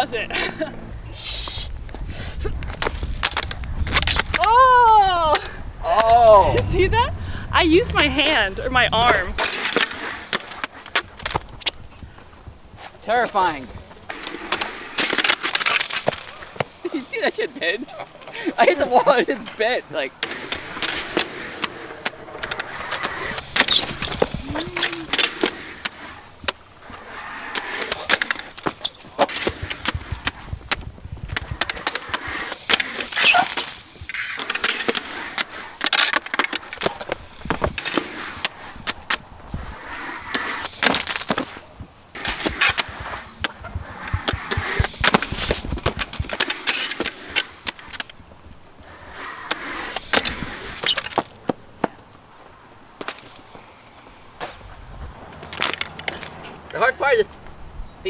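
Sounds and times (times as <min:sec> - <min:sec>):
skateboard wheels rolling on concrete: 0:00.0 - 0:58.0.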